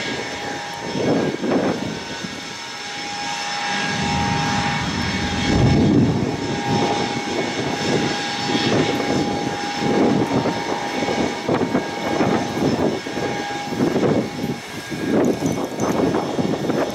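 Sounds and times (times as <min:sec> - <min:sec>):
jet engines whining and rumbling: 0:00.0 - 0:16.9.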